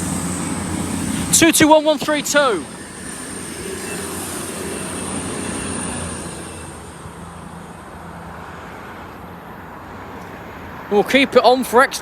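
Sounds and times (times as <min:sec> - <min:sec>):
rail rumble: 0:00.0 - 0:09.7
diesel train engine hum: 0:00.0 - 0:10.9.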